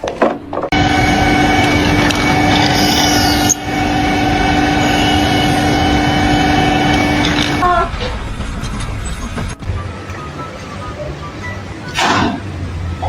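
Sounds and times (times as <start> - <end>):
machine droning hum: 0.7 - 13.0.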